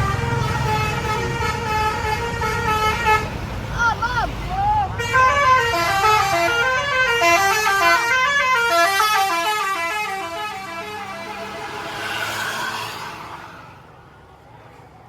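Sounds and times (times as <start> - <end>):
multi-tone bus air horn tune: 0.0 - 3.4, 5.0 - 13.8.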